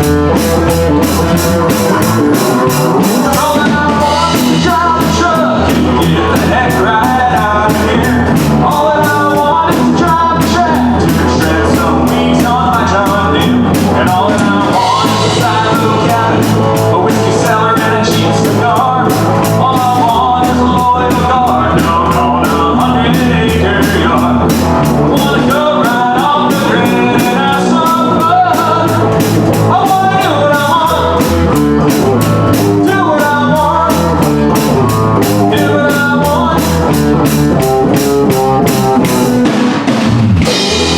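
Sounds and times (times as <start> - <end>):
bass guitar: 0.0 - 40.9
drum kit: 0.0 - 40.9
electric guitar: 0.0 - 40.9
person singing: 0.0 - 40.9.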